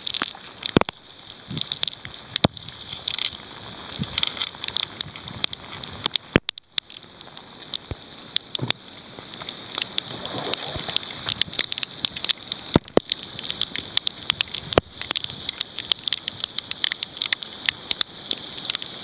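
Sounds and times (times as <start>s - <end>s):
heavy rain: 0.0s - 19.0s
raindrops tapping microphone: 0.0s - 19.0s.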